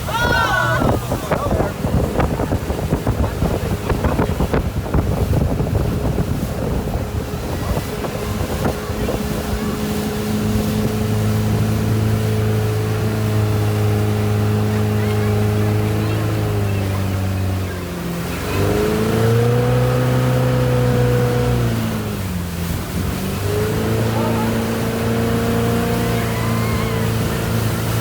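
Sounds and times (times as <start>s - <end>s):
motorboat engine running: 0.0s - 28.0s
water splashing: 0.0s - 28.0s
wind buffeting microphone: 0.0s - 28.0s.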